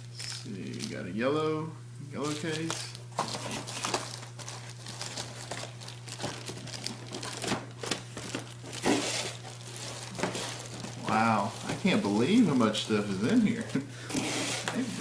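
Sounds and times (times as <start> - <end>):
packaging crinkling and rustling: 0.0 - 1.0, 2.2 - 15.0.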